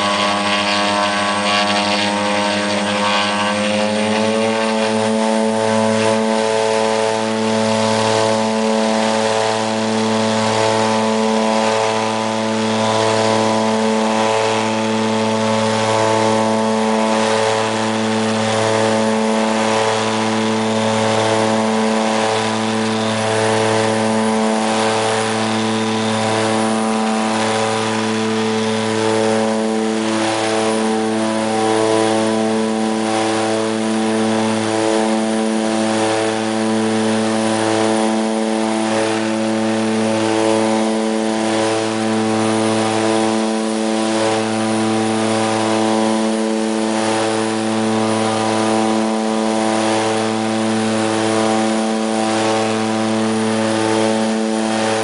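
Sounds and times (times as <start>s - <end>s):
turboprop engines droning in cabin: 0.0s - 55.0s.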